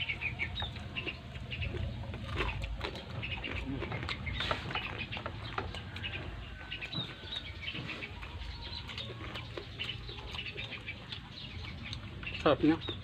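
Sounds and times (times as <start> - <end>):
birds calling: 0.0 - 13.0
crunchy chewing: 0.0 - 13.0.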